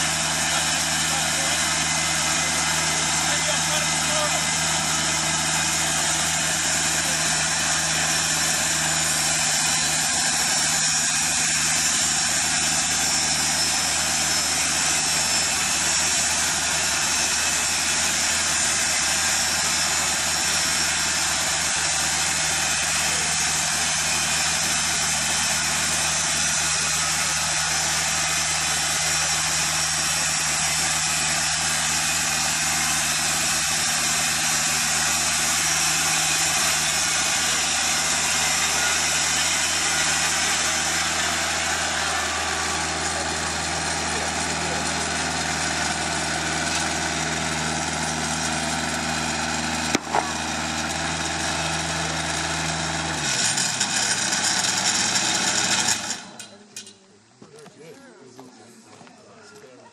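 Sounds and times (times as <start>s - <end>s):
band blade cutting boards: 0.0s - 56.5s
sawmill engine under load: 0.0s - 56.9s.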